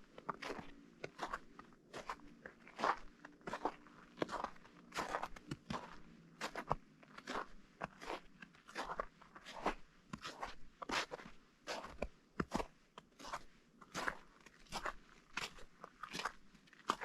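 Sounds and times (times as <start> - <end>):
footsteps crunching on snow: 0.2 - 17.0.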